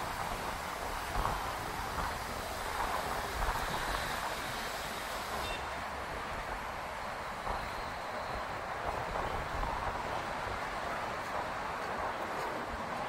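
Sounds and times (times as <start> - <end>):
wind buffeting microphone: 0.0 - 5.4, 6.0 - 13.0.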